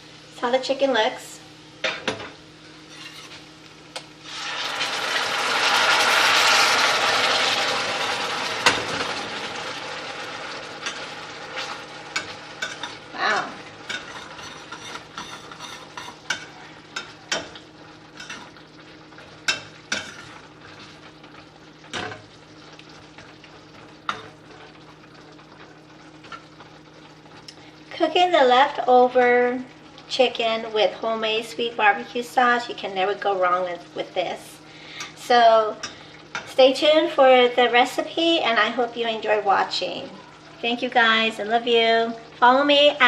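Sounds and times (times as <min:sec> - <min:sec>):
food sizzling in a pan: 0:00.0 - 0:43.0.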